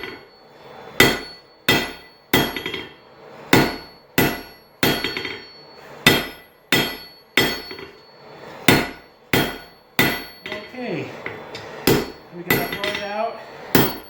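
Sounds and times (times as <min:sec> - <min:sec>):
hammer ringing on anvil: 0:00.0 - 0:10.8, 0:11.8 - 0:14.0.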